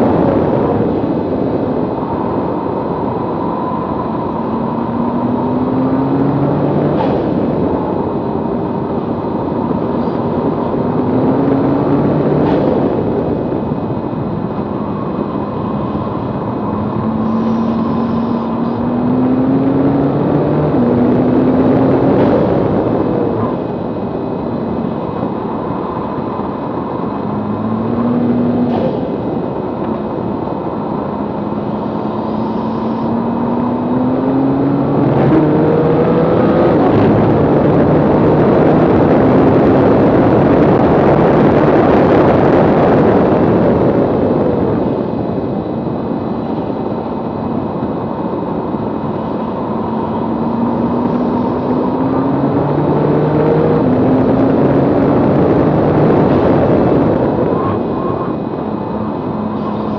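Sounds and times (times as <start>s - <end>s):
car engine accelerating: 0.0s - 59.9s
wind on microphone: 0.0s - 59.9s.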